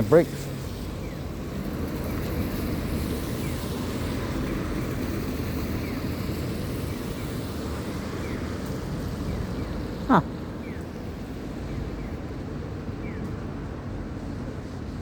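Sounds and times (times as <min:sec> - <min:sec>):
tyres on wet pavement: 0:00.0 - 0:15.0.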